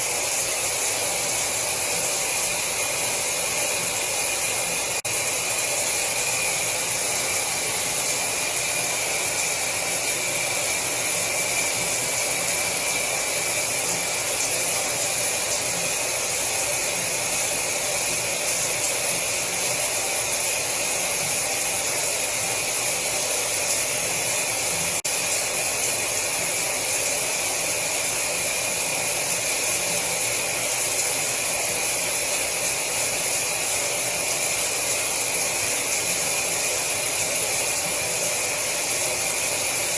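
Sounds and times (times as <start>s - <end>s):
shower water running: 0.0s - 39.9s.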